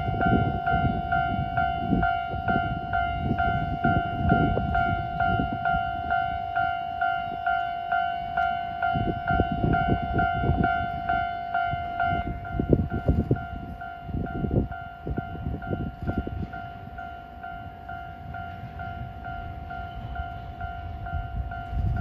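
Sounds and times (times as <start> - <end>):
level crossing warning bell ringing: 0.0 - 22.0.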